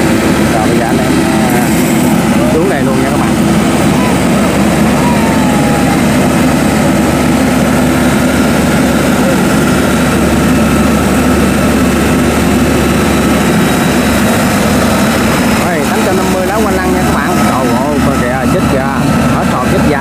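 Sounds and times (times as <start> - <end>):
diesel engine running loudly: 0.0 - 20.0.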